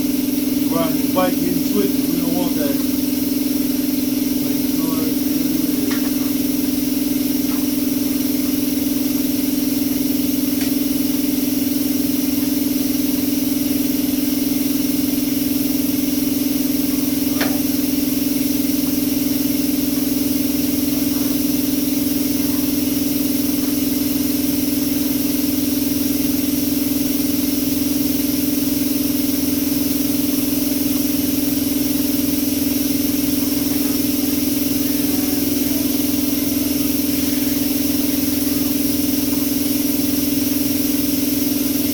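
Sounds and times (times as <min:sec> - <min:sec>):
motor humming: 0:00.0 - 0:41.9.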